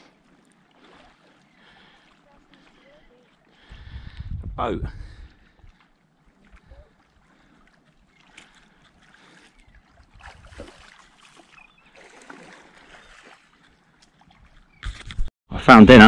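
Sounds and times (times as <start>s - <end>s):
wavelets lapping on sand: 0.0s - 3.7s, 5.4s - 14.7s.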